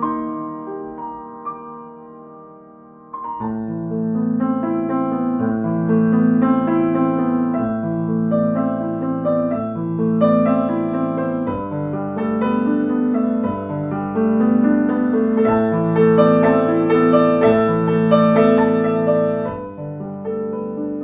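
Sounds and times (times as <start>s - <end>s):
calm piano music: 0.0s - 21.0s.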